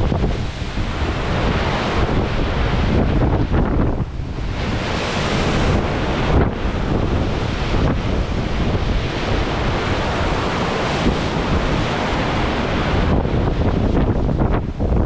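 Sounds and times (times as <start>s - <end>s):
big sea waves rushing: 0.0s - 15.0s
storm wind on microphone: 0.0s - 15.0s.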